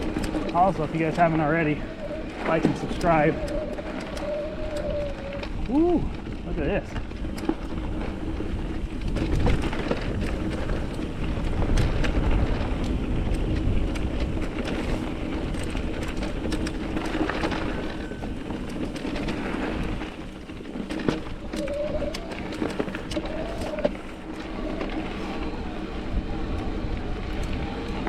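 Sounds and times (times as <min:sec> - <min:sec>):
bike clicks and rattles: 0:00.0 - 0:28.0
bike tyre noise: 0:00.0 - 0:28.0
wind buffeting microphone: 0:00.0 - 0:28.0.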